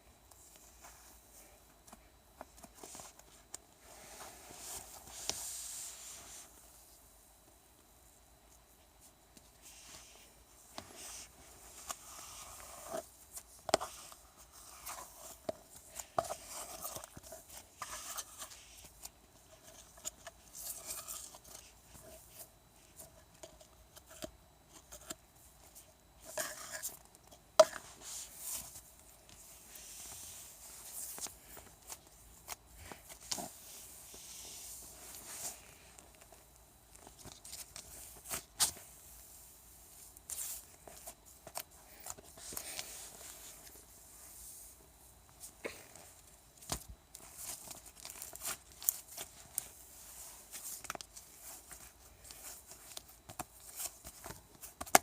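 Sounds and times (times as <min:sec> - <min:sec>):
rustling and scraping objects: 0:00.0 - 0:55.0.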